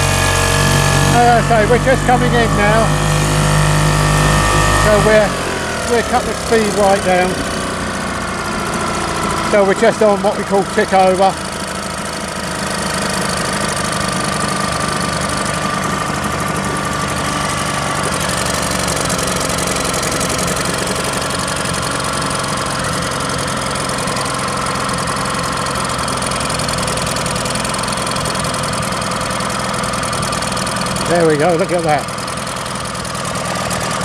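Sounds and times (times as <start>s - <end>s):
small boat engine idling: 0.0s - 34.0s.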